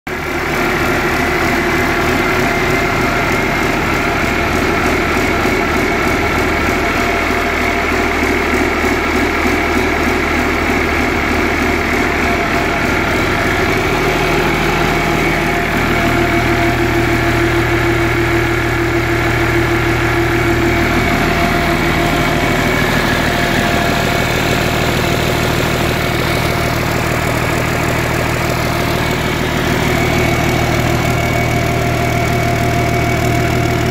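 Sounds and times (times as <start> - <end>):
marine diesel engine running: 0.1 - 33.9.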